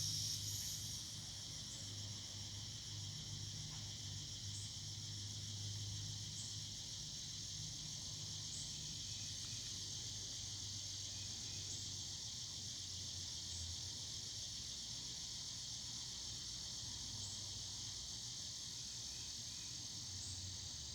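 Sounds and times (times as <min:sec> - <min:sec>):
cicadas droning: 0:00.0 - 0:20.9.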